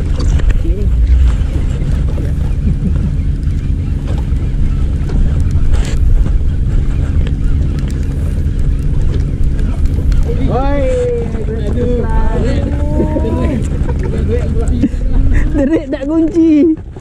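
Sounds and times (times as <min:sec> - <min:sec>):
steady low hum: 0:00.0 - 0:17.0
wind noise on microphone: 0:00.0 - 0:17.0.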